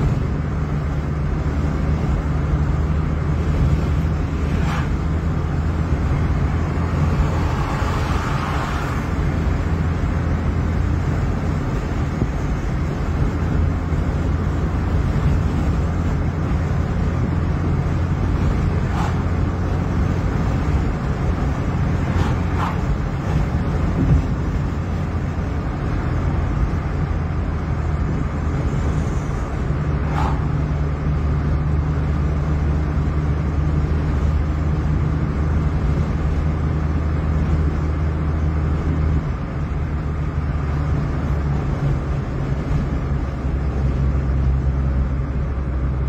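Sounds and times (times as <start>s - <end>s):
car engine drone: 0.0s - 46.0s
tyre and road noise: 0.0s - 46.0s.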